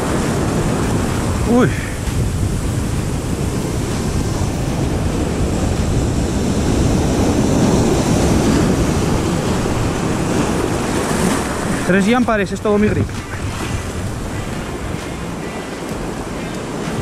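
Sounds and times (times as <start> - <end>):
sea surf breaking over rocks: 0.0 - 17.0.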